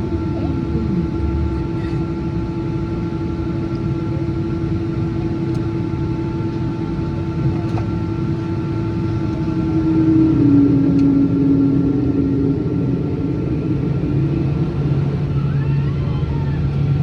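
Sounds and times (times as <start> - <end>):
jet engines heard in cabin: 0.0 - 17.0.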